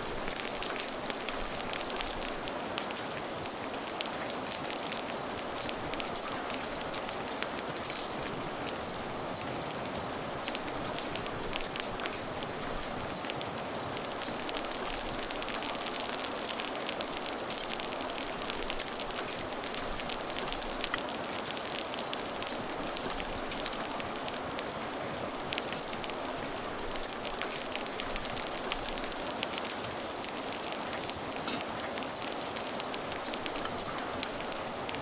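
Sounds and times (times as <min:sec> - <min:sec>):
steady rain: 0:00.0 - 0:35.0
wood fire crackling: 0:00.0 - 0:35.0.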